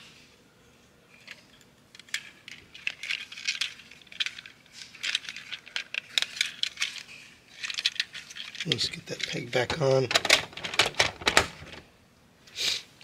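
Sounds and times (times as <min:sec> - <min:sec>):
plastic toy parts clicking: 0:01.3 - 0:11.8.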